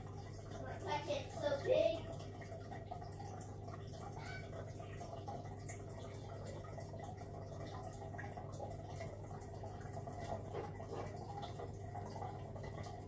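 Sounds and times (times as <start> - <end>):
aquarium pump humming: 0.0 - 13.0
water trickling and bubbling: 0.0 - 13.0.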